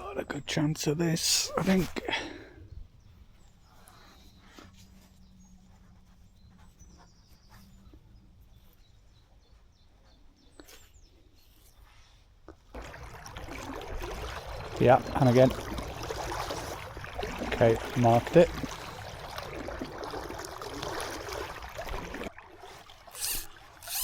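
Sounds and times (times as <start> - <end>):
faint riverside ambience: 0.0 - 24.0.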